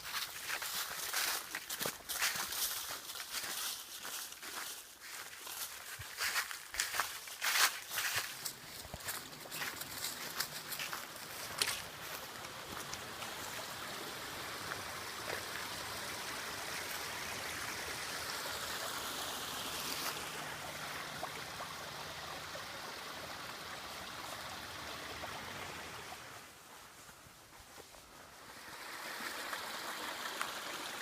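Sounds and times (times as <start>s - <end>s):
small stream flowing: 0.0s - 31.0s.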